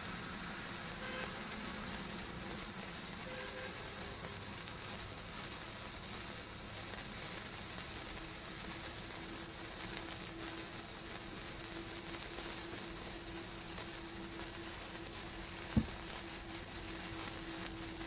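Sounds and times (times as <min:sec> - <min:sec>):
sparkler fizzing hiss: 0:00.0 - 0:18.0.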